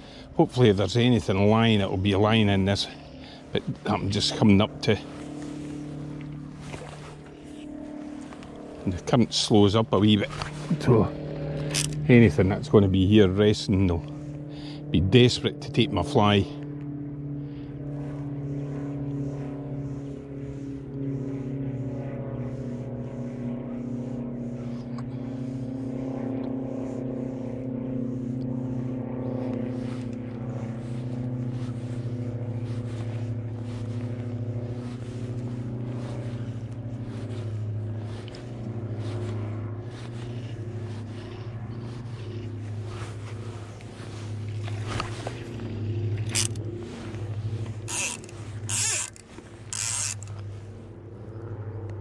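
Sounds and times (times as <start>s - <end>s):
engine humming: 0.0s - 52.0s.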